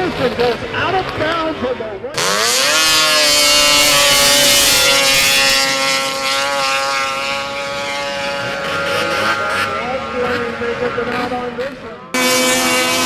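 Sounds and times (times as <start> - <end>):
snowmobile engines whining: 0.0 - 13.0.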